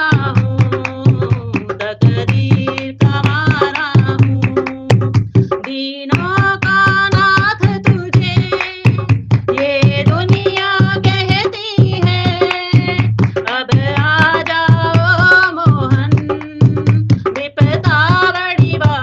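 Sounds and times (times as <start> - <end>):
hand drum beating: 0.0 - 19.0
woman singing devotional song: 0.0 - 19.0.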